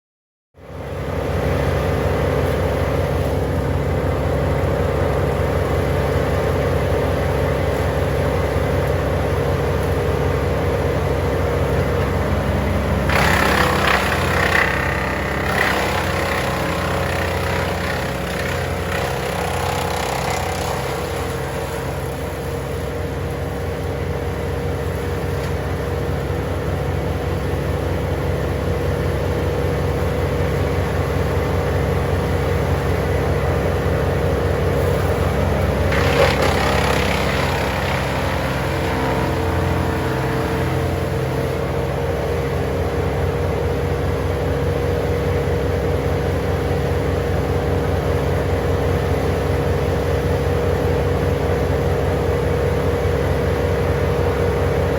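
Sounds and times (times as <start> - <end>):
wood chipper engine running: 0.6 - 54.9.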